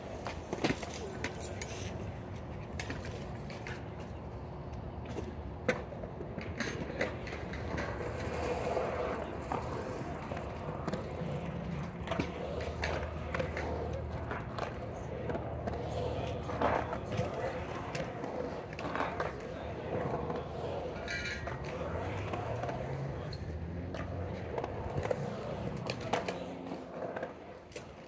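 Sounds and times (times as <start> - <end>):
skateboard clacks: 0.0 - 28.0
skateboard wheels rolling on concrete: 0.0 - 28.0.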